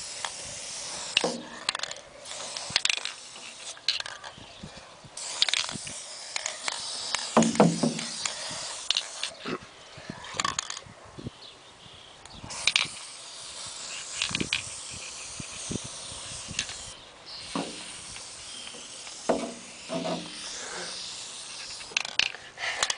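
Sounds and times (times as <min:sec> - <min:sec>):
spray-paint can hissing: 0:00.0 - 0:04.3, 0:05.2 - 0:09.4, 0:12.4 - 0:22.4.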